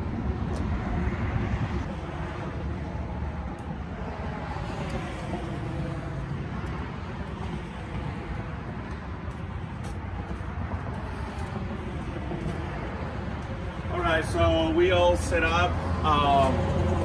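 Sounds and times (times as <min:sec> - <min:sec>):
road traffic rumble and hiss: 0:00.0 - 0:17.0.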